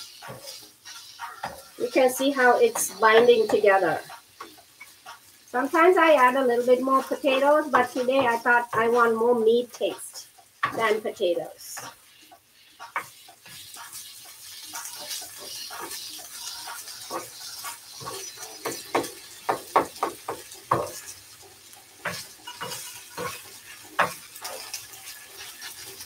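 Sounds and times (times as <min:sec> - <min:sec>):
frying sizzle: 0:00.0 - 0:26.0
spatula scraping a frying pan: 0:00.0 - 0:26.0.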